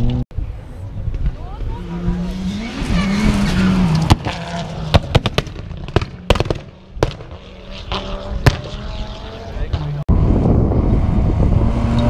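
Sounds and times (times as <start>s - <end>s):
rally car engine revving: 1.4s - 12.0s.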